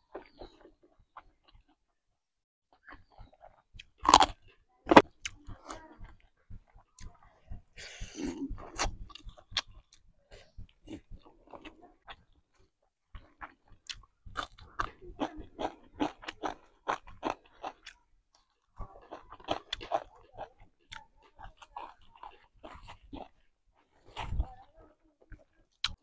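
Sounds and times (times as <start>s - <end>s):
close chewing and biting: 0.0s - 1.8s, 2.7s - 26.0s.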